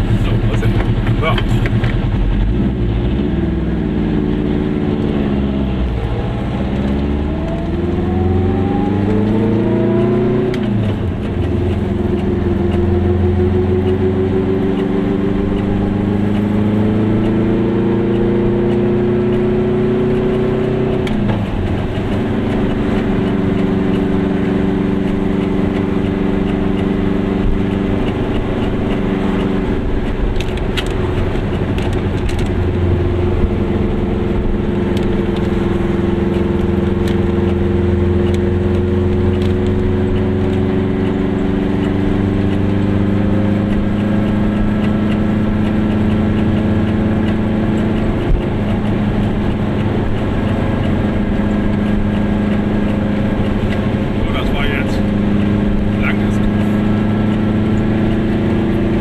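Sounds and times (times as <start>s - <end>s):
two-stroke car engine accelerating: 0.0s - 59.0s.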